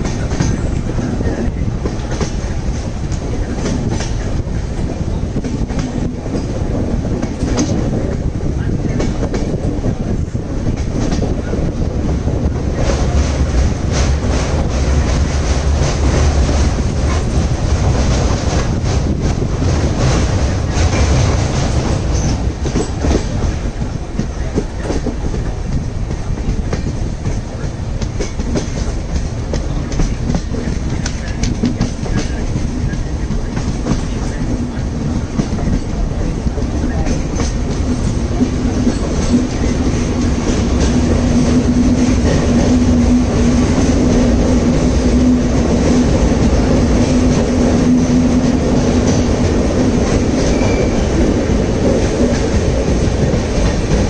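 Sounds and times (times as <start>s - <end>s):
train wheels clicking on rails: 0.0s - 54.0s.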